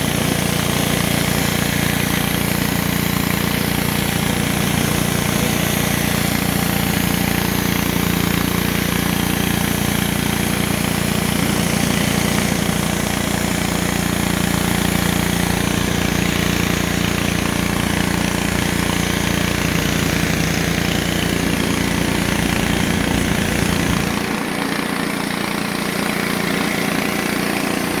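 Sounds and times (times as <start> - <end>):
pressure washer engine running: 0.0 - 28.0
water jet hissing on concrete: 0.0 - 28.0.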